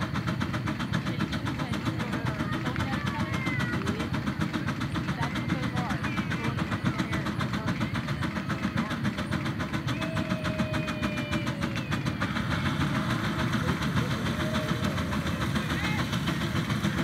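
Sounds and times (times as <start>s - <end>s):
steam engine exhaust chuffing: 0.0s - 17.0s.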